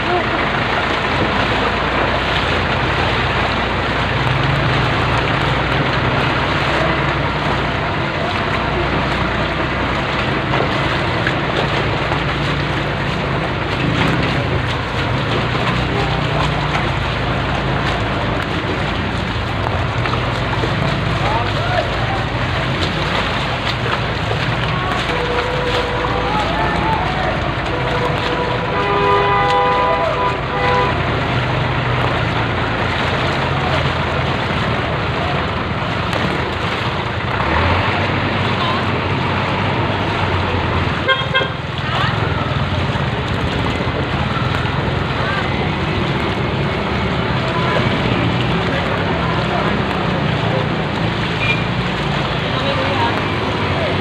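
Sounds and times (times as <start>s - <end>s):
low engine drone: 0.0s - 54.0s
water sloshing and splashing: 0.0s - 54.0s.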